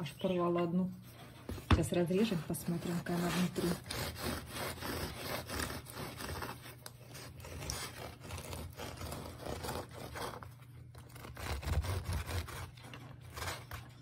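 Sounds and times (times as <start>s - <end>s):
knife sawing through bread: 2.2s - 14.0s.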